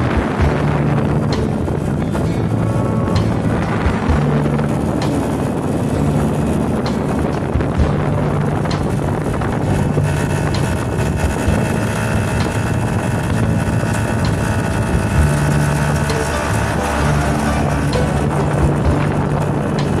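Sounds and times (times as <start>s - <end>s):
motorcycle engine humming: 0.0s - 20.0s
road noise: 0.0s - 20.0s
wind noise on microphone: 0.0s - 20.0s.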